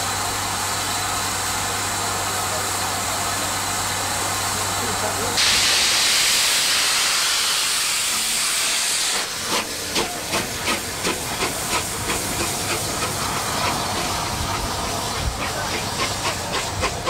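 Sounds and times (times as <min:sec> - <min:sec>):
loud hiss of steam: 0:00.0 - 0:17.0
steam locomotive exhaust beats: 0:00.0 - 0:17.0.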